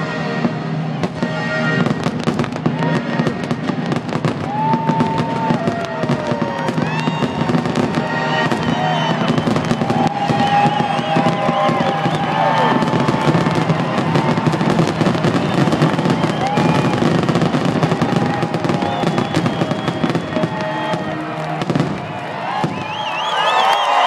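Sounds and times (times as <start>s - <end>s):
music playing: 0.0s - 22.7s
fireworks bursting with bangs: 0.0s - 23.7s.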